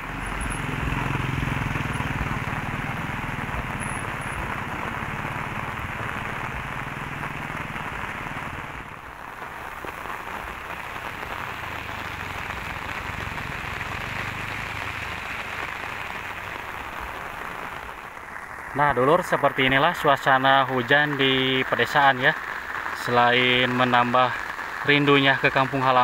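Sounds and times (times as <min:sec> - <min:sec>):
rain pattering on surfaces: 0:00.0 - 0:26.0.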